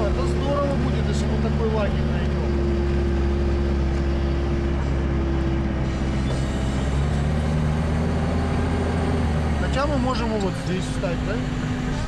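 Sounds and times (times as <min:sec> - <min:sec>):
vehicle engine low drone: 0:00.0 - 0:12.0.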